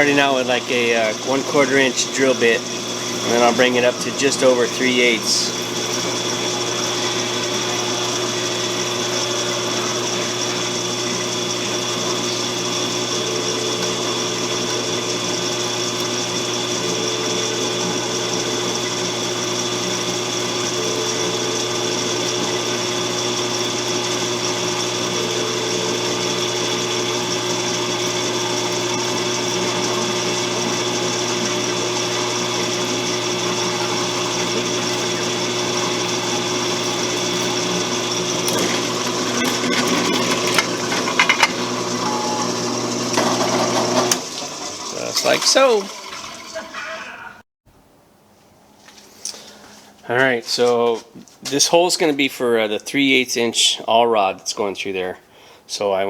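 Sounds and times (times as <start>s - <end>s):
electric drill boring steel: 0.0s - 47.2s.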